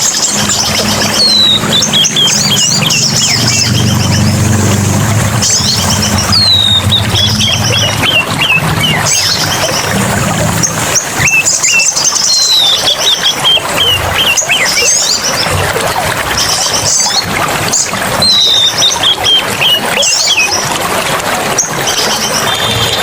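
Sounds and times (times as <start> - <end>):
songbirds whistling and trilling: 0.0 - 23.0
water rushing: 0.0 - 23.0.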